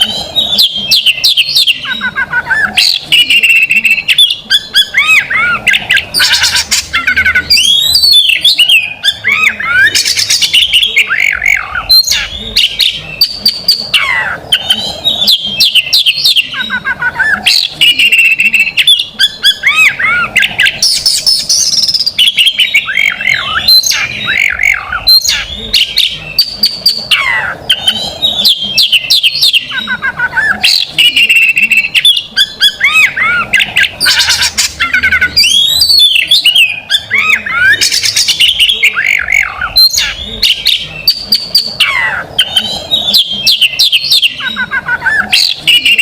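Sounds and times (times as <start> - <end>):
songbird singing trills and whistles: 0.0 - 46.0.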